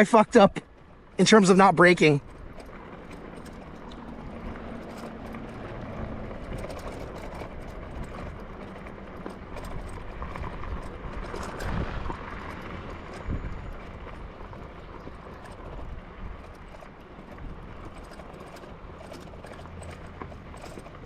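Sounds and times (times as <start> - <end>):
tyres on dirt: 0.0 - 21.0
small rattles and knocks: 2.0 - 21.0.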